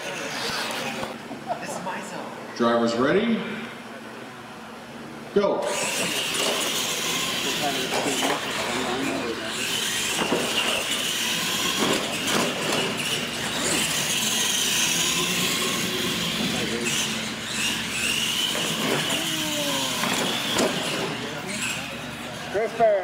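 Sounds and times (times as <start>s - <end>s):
high-pitched motor whine: 0.0s - 1.2s, 5.4s - 23.0s.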